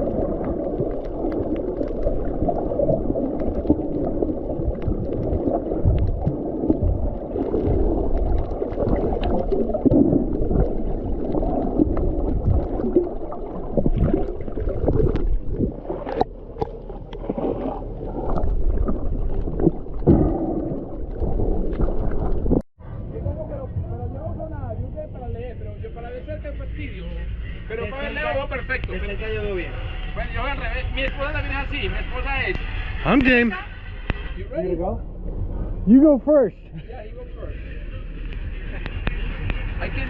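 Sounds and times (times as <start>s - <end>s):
muffled water sloshing and gurgling: 0.0s - 26.3s, 27.4s - 40.0s.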